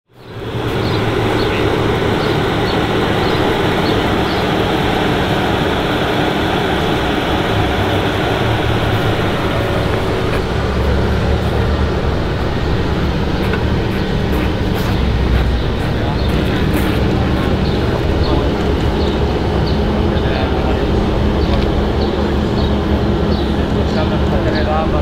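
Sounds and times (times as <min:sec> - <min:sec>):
vehicle engine running: 0:00.1 - 0:25.0.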